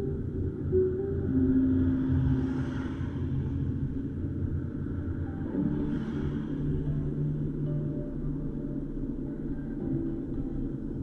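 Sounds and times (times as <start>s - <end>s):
car engine and road noise: 0.0s - 11.0s
faint hum: 0.0s - 11.0s.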